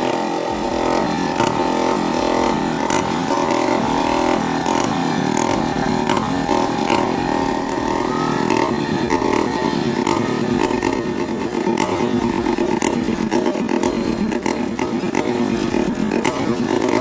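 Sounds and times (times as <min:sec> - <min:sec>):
chainsaw engine at high revs: 0:00.0 - 0:17.0.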